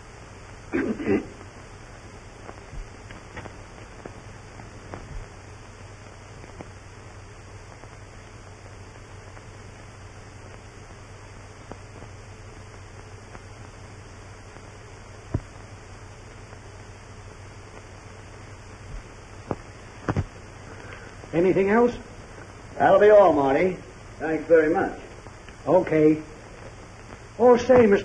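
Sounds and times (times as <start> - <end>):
film soundtrack hiss and hum: 0.0 - 28.0
faint clicks and crackles: 1.4 - 21.4, 25.0 - 28.0.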